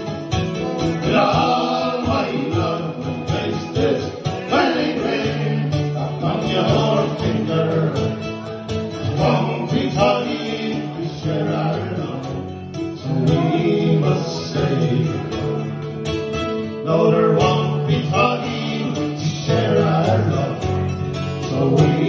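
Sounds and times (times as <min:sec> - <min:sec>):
acoustic guitars: 0:00.0 - 0:22.0
men singing folk song: 0:00.0 - 0:22.0.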